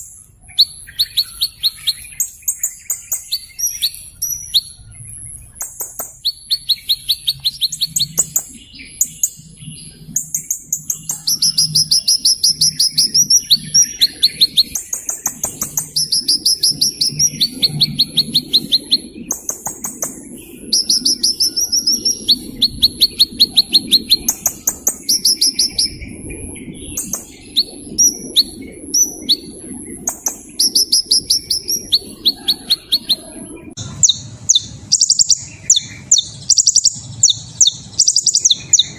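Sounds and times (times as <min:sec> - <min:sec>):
small bird singing trills: 0:00.0 - 0:38.9.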